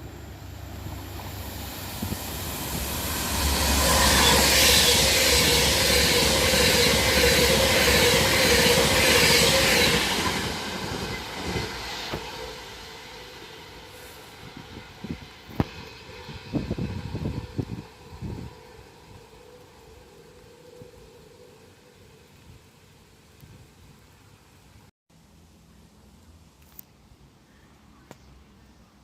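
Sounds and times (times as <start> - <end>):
electric train passing at speed: 0.0 - 24.8.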